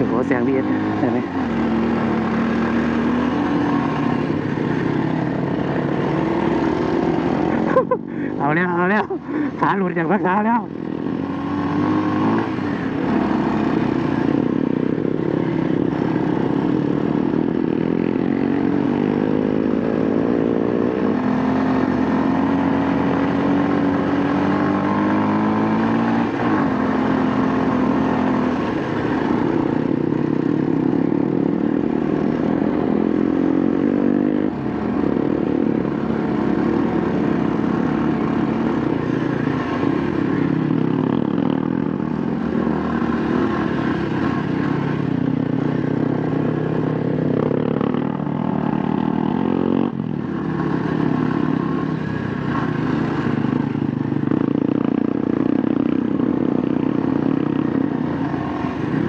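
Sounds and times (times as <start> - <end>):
motorcycle engine pulling uphill: 0.0 - 59.0.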